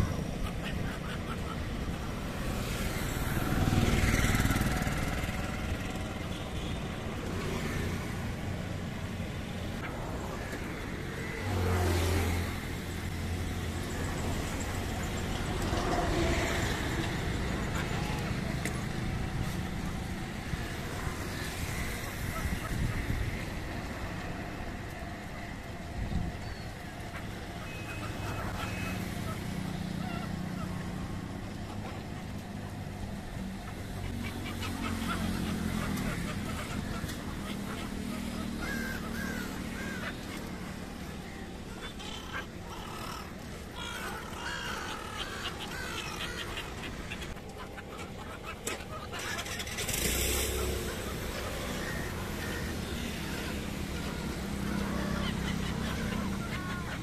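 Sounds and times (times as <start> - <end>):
gulls calling: 0.0 - 57.0
low rumble of outdoor noise: 0.0 - 57.0.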